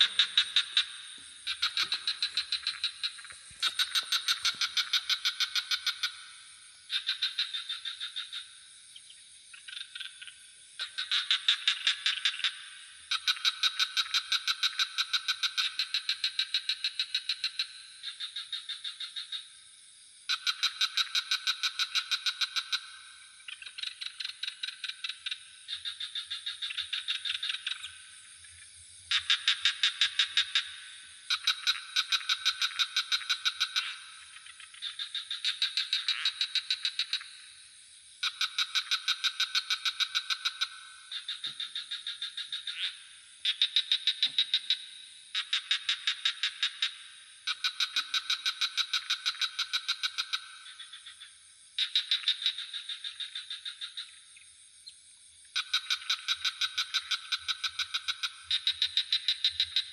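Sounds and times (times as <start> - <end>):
frogs calling in trills: 0.0 - 59.9
high insect drone: 0.0 - 59.9.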